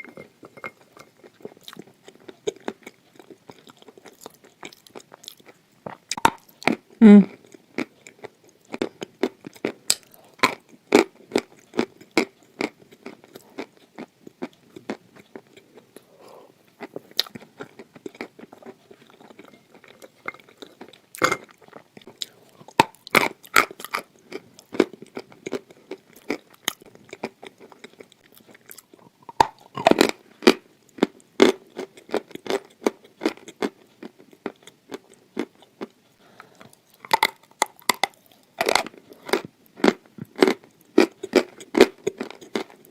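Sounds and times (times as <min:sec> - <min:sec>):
clay being chewed crunching: 0:00.0 - 0:16.1, 0:16.7 - 0:42.9.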